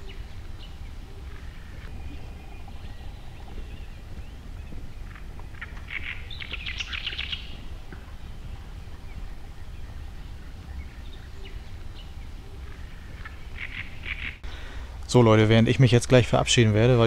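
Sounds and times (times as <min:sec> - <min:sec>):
bird chattering call: 0:00.0 - 0:14.7
steady low rumble: 0:00.0 - 0:17.0.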